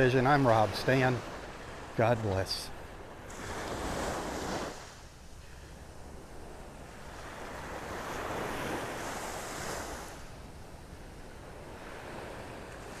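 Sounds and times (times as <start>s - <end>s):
small waves washing onto beach: 0.0s - 13.0s.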